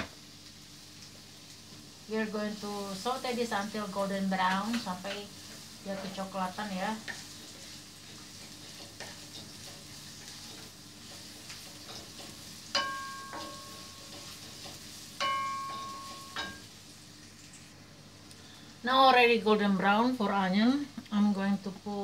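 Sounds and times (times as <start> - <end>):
onions sizzling in frying pan: 0.0 - 22.0.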